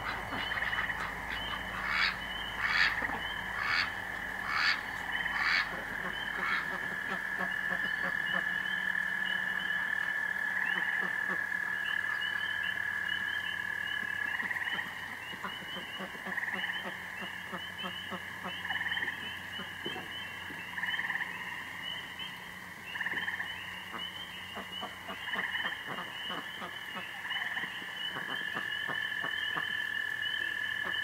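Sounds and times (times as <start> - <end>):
constant high chirping: 0.0 - 31.0
frogs trilling: 0.0 - 31.0.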